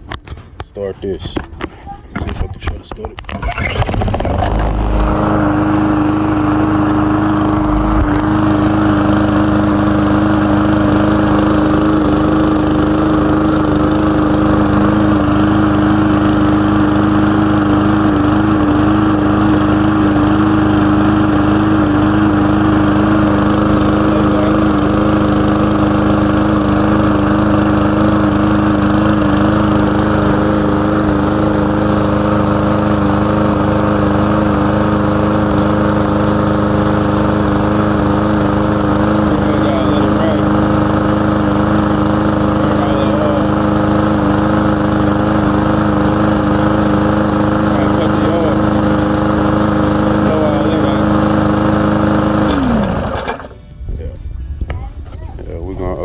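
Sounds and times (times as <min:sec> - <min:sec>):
lawn mower engine running: 0:00.0 - 0:53.8.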